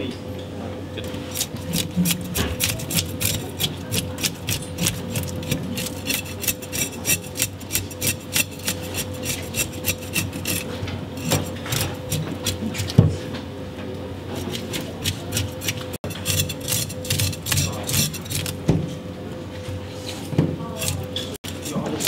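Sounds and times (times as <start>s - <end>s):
knife scraping fish scales: 1.1s - 13.0s, 14.3s - 18.6s, 19.9s - 22.0s.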